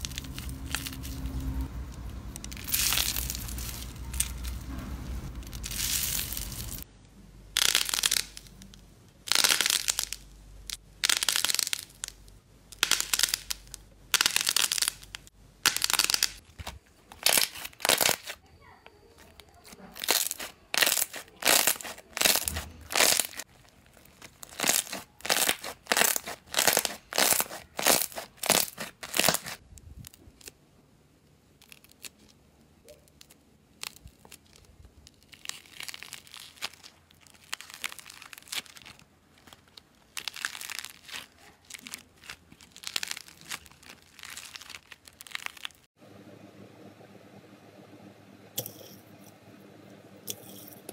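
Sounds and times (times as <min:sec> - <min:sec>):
slime squelching crackly: 0:00.0 - 0:06.9, 0:07.6 - 0:30.6, 0:31.5 - 0:46.0
soft balls crackling softly: 0:00.0 - 0:14.0, 0:18.4 - 0:30.6, 0:31.2 - 0:45.9.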